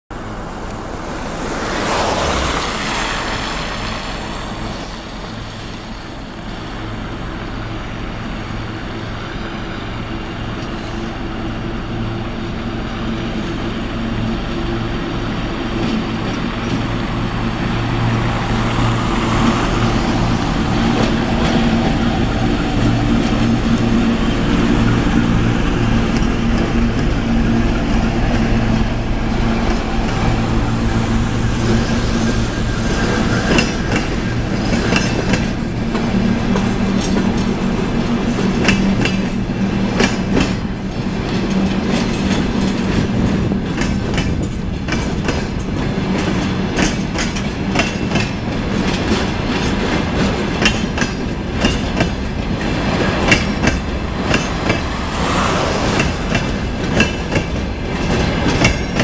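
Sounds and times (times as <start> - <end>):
locomotive diesel engine humming: 0.1 - 59.0
cars passing on wet road: 0.2 - 9.2, 12.0 - 59.0.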